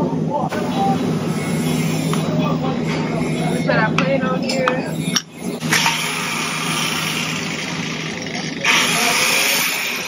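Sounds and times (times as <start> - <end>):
angle grinder running: 0.5 - 10.0.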